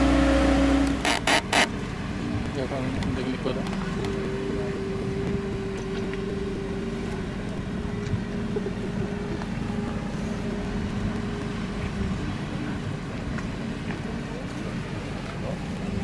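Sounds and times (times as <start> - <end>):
dredger engine running: 0.0 - 16.0.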